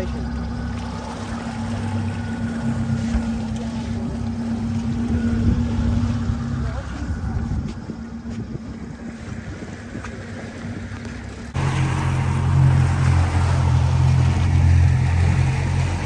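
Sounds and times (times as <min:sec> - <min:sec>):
water rushing past: 0:00.0 - 0:07.5, 0:09.0 - 0:16.0
motorboat engine running: 0:00.0 - 0:16.0.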